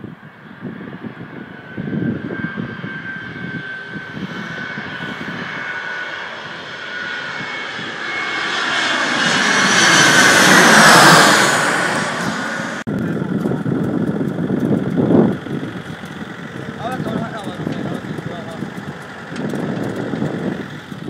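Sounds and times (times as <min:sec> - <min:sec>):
jet airliner flying overhead: 0:00.0 - 0:21.0.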